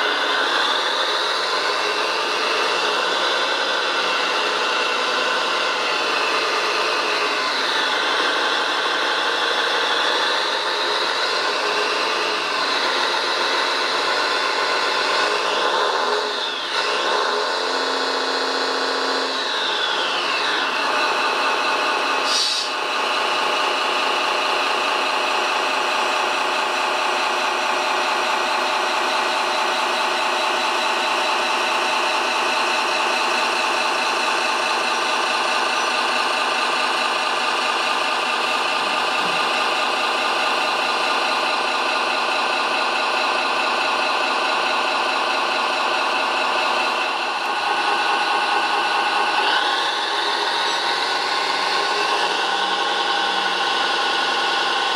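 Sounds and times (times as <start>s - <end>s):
model crane motors whining: 0.0s - 54.9s.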